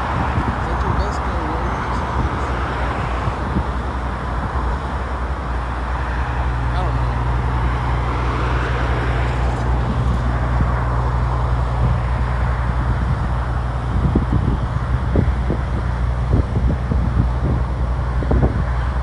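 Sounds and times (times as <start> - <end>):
steady low hum: 0.0 - 19.0
wind noise on microphone: 0.0 - 19.0.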